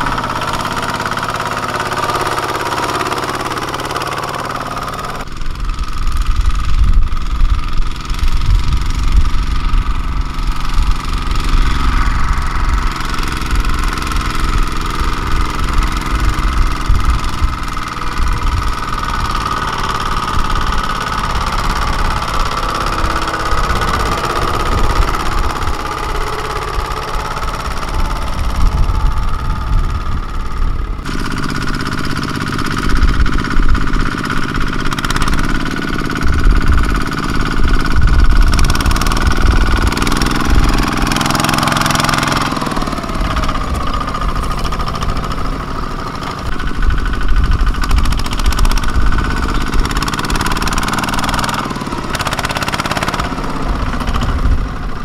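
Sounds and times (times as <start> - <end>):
walking tractor diesel engine: 0.0 - 55.0.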